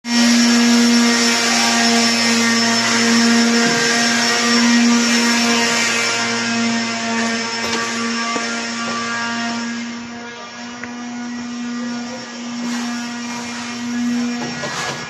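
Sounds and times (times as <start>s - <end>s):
power tool motor whine: 0.1s - 15.0s.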